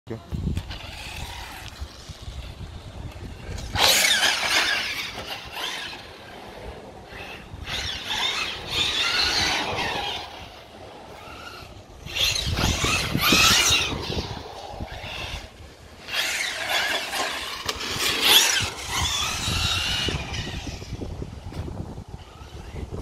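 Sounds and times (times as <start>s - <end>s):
toy car electric motor whining: 0.6s - 23.0s.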